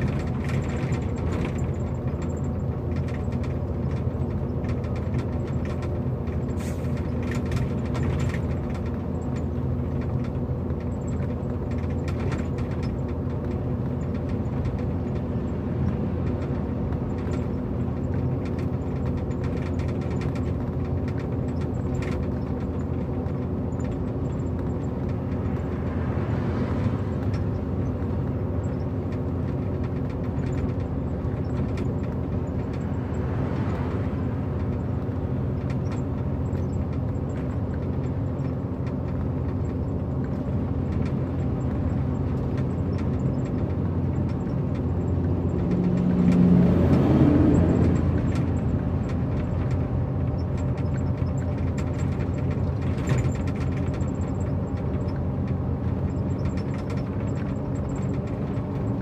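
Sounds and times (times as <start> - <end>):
small rattles and clicks: 0.0 - 59.0
truck engine and road noise: 0.0 - 59.0.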